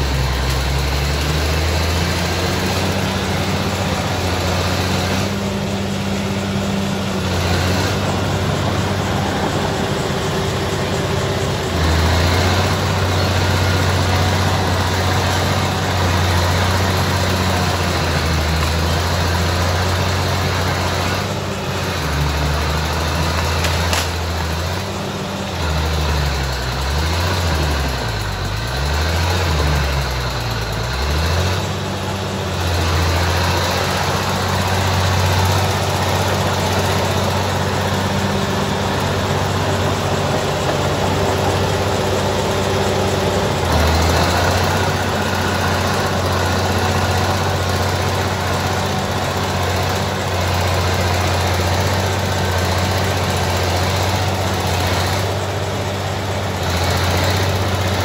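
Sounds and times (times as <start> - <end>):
bulldozer diesel engine working: 0.0 - 58.0.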